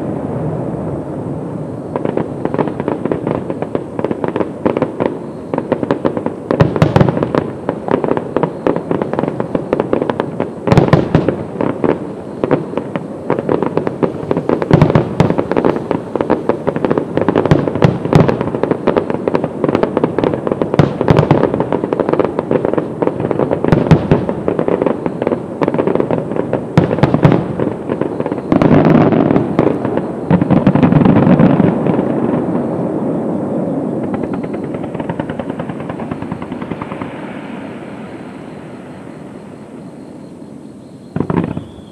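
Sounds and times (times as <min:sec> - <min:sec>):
fireworks bangs and crackles: 0:00.0 - 0:41.9
fireworks rushing hiss: 0:00.0 - 0:41.9.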